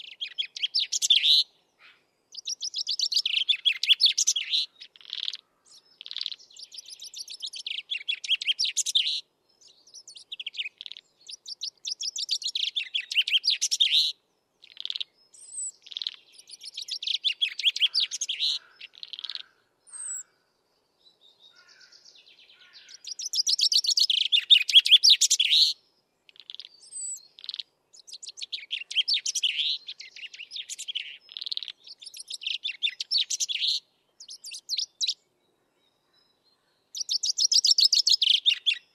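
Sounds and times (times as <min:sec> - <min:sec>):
chaffinch singing: 0:00.0 - 0:38.9.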